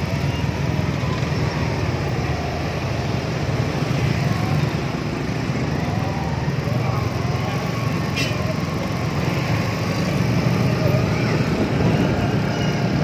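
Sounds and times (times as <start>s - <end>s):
other motorbike engines: 0.0s - 13.0s.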